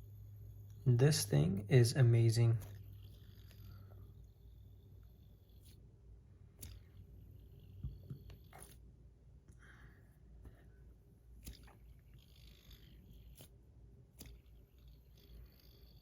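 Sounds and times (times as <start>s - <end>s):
fidget spinner clicks and rubbing: 0.0s - 9.6s, 11.3s - 16.0s.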